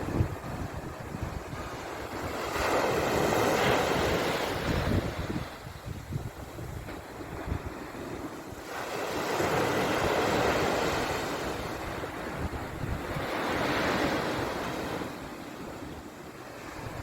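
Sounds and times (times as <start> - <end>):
sea waves surging and washing: 0.0 - 17.0.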